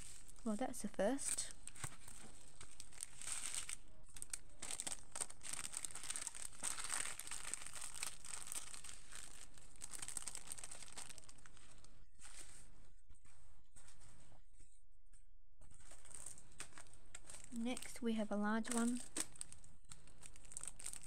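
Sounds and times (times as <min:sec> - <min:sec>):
paper and plastic film crinkling: 0:00.0 - 0:12.7, 0:15.7 - 0:21.0.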